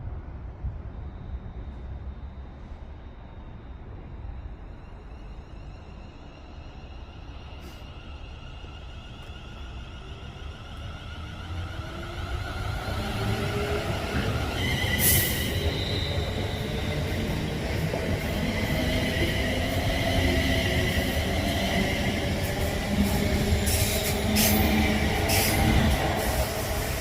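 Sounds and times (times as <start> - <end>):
train rumbling on track: 0.0 - 27.0.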